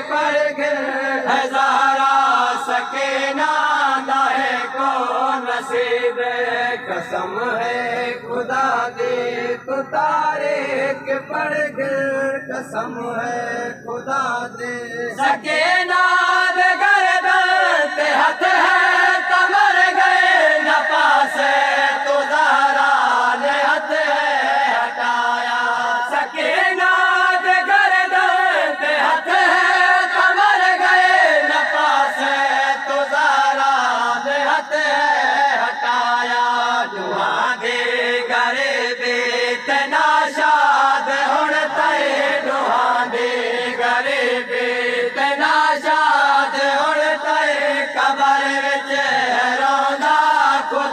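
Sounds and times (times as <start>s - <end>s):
men chanting in unison: 0.0s - 50.9s.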